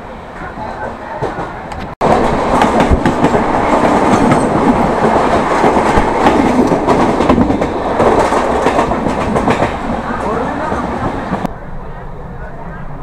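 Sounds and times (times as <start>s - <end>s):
passing train rumble and clatter: 0.0s - 13.0s.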